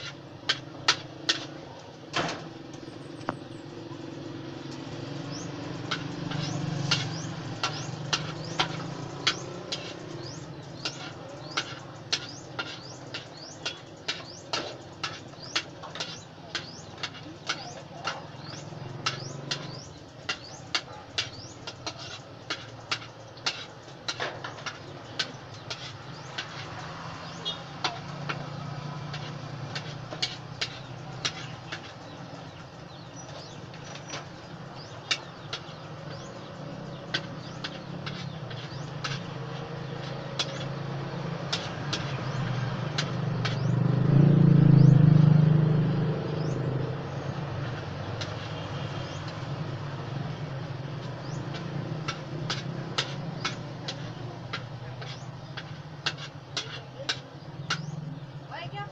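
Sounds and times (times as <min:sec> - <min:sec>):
metal utensil tapping a wok: 0:00.0 - 0:01.6, 0:02.3 - 0:43.8, 0:48.0 - 0:58.1
low engine rumble: 0:00.0 - 0:58.9.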